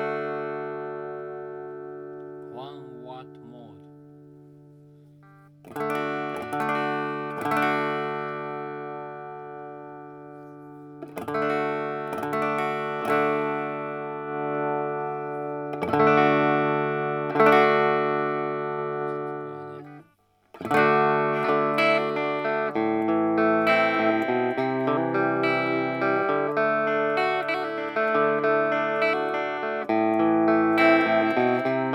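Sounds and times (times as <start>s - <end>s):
electric guitar chords: 0.0s - 31.9s.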